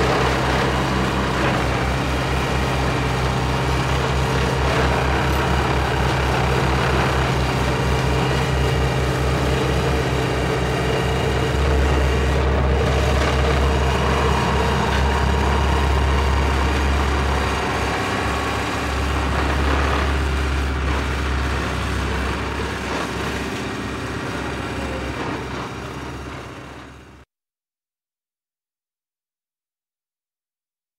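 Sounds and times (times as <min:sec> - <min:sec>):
diesel engine rumbling: 0:00.0 - 0:27.2.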